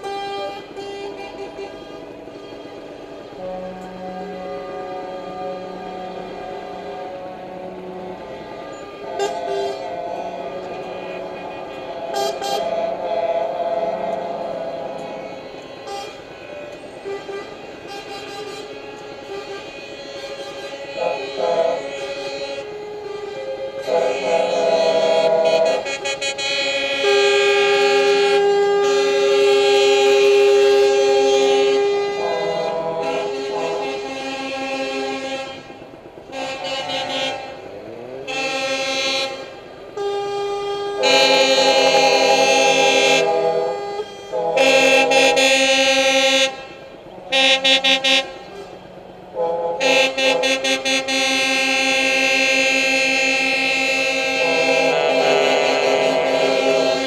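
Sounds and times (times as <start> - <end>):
truck air horns: 0.0 - 57.0.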